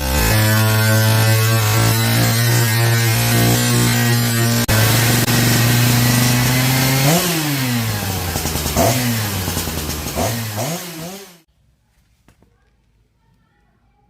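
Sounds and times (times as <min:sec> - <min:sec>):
chainsaw engine revving: 0:00.0 - 0:11.5.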